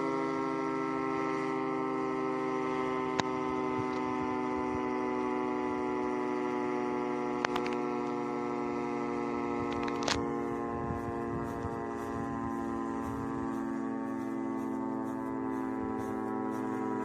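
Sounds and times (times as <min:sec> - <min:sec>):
siren holding a steady chord: 0:00.0 - 0:17.0.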